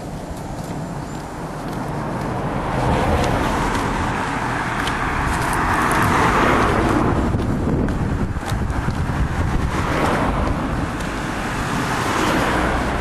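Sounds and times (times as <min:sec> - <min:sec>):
car approaching on road: 0:00.0 - 0:13.0.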